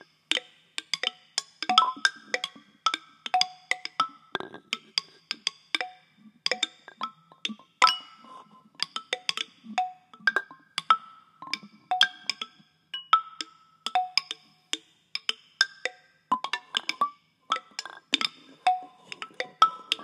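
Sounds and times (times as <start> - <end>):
struck clicks and taps: 0.3 - 8.2, 8.8 - 20.0.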